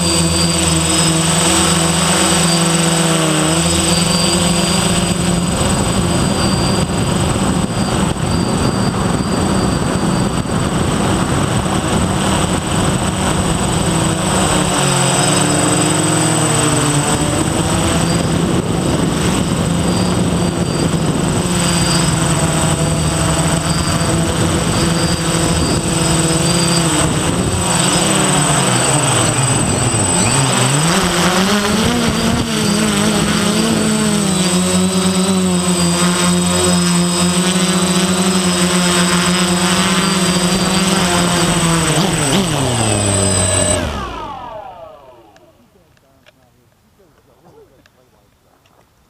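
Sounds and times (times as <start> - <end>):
drone propellers buzzing: 0.0 - 46.0
high-pitched whine: 0.0 - 46.3.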